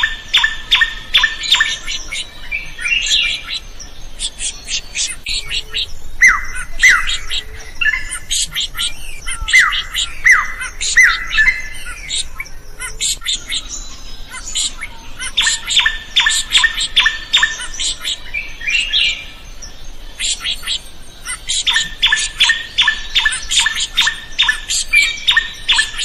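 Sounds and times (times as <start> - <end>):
bird singing varied notes: 0.0 - 26.0.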